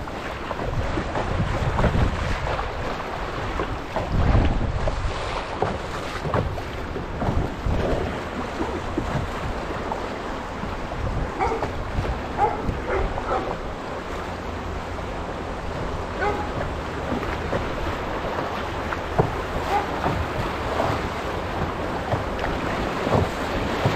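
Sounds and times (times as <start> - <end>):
paddle strokes: 0.0 - 23.9
river rapids rushing and splashing: 0.0 - 23.9
wind buffeting microphone: 0.0 - 23.9.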